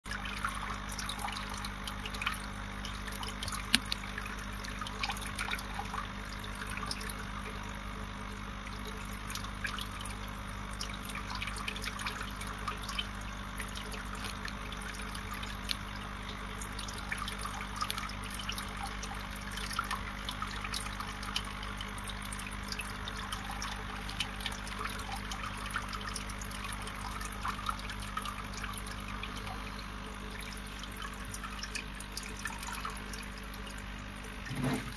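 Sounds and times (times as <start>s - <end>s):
aquarium water bubbling: 0.1s - 34.9s
low steady hum: 0.1s - 34.9s.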